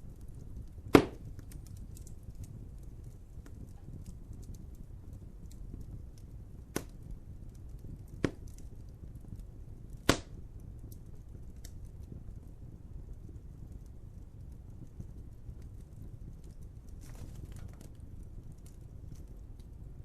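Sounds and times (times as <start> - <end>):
sharp pops from fire: 0.0 - 20.0
wood fire crackling: 0.0 - 20.0.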